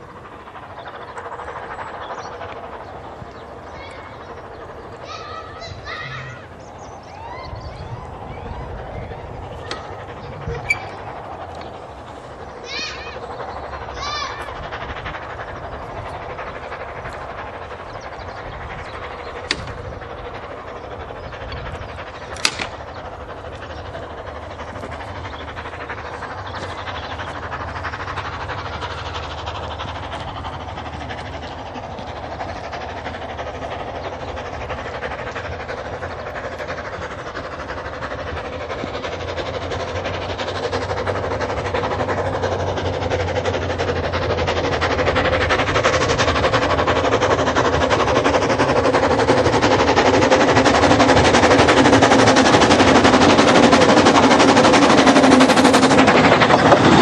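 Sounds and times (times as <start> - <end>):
steam locomotive running: 0.0 - 57.0.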